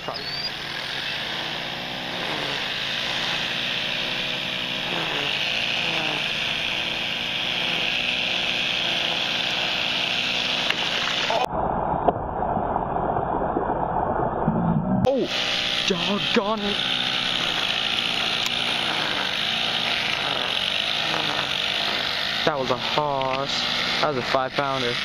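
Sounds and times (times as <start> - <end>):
engine-like hum with hiss: 0.0 - 11.5, 15.2 - 25.0.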